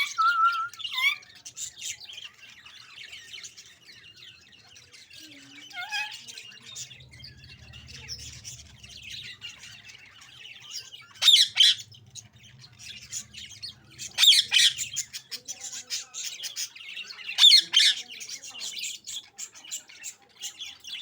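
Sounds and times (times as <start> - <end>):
budgerigars chirping: 0.0 - 21.0.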